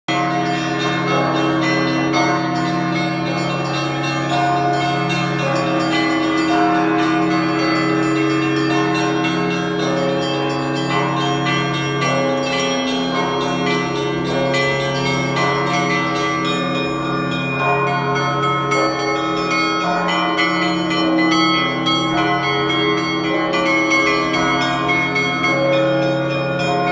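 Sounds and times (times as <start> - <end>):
deep hum of large bells: 0.1 - 26.9
small church bells ringing: 0.1 - 26.9.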